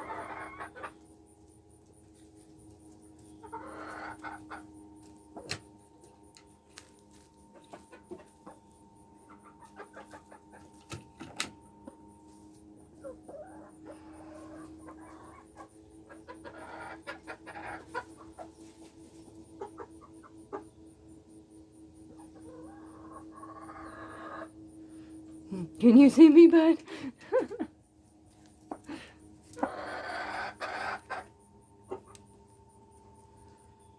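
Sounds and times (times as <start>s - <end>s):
chickens clucking softly: 0.0s - 20.9s, 22.0s - 24.8s, 28.3s - 33.9s
steady low hum: 0.0s - 33.9s.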